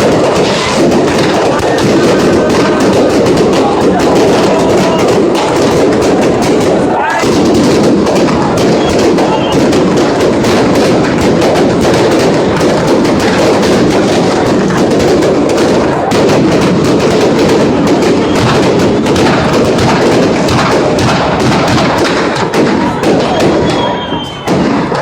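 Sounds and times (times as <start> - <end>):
crowd din: 0.0 - 25.0
fireworks crackling and popping: 0.0 - 25.0.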